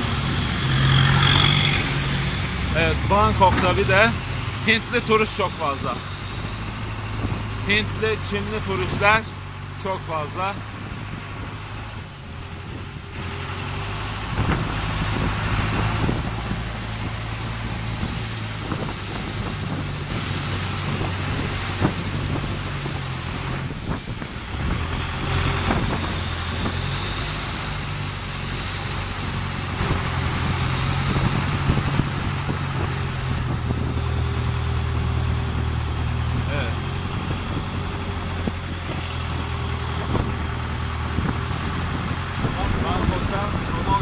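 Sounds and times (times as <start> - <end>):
boat engine running: 0.0 - 44.0
water rushing past hull: 0.0 - 44.0.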